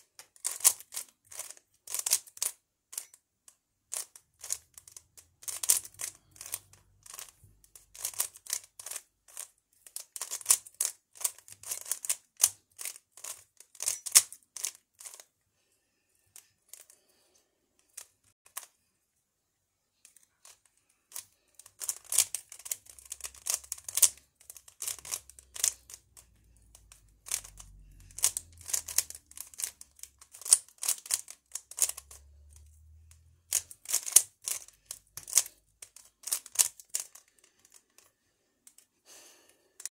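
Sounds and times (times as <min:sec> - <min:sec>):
puzzle cube clicking: 0:00.4 - 0:03.1, 0:03.9 - 0:15.2, 0:20.1 - 0:38.1.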